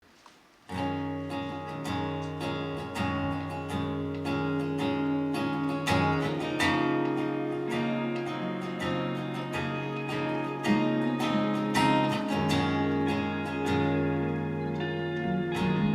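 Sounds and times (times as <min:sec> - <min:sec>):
acoustic guitar strumming: 0:00.7 - 0:15.9.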